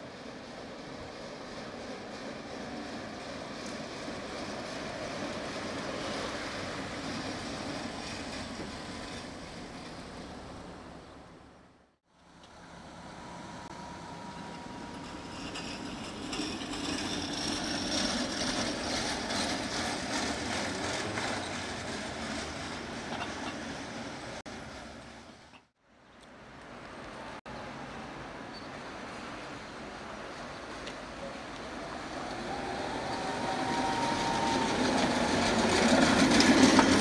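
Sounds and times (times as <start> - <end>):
road traffic: 0.0 - 37.0
tram rumble: 0.0 - 37.0.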